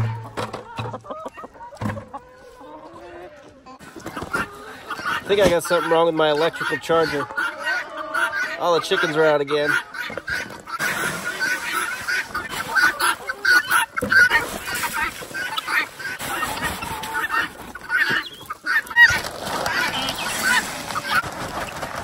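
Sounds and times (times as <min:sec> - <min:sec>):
hens squawking and clucking: 0:00.0 - 0:22.0.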